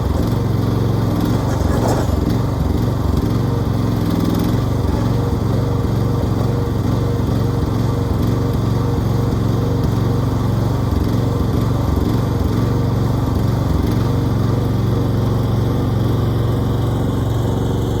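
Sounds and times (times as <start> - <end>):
engine humming: 0.0 - 15.1.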